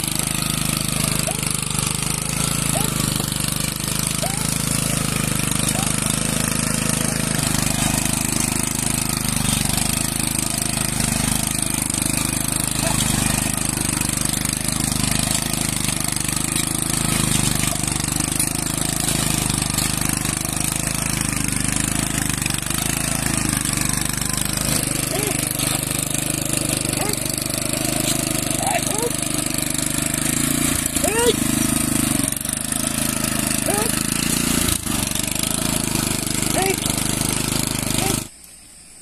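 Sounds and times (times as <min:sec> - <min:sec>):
tiller engine running: 0:00.0 - 0:38.4.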